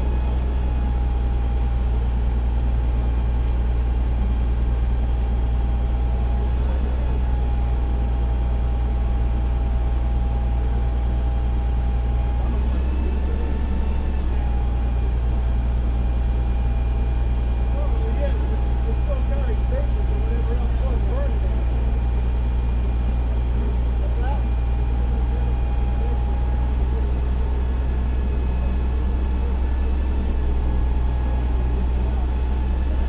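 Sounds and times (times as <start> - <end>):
diesel engine droning: 0.0 - 33.0.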